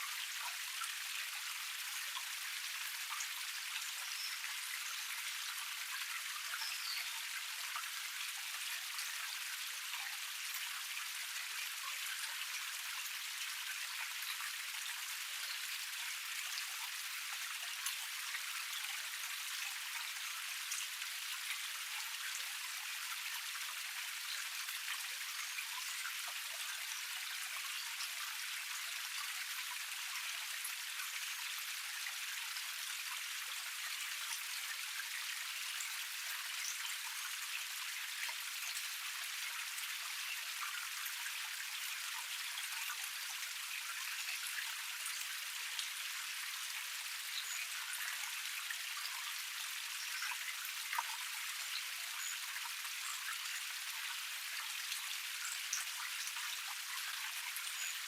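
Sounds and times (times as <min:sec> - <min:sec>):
water splashes and drips: 0:00.0 - 0:58.0.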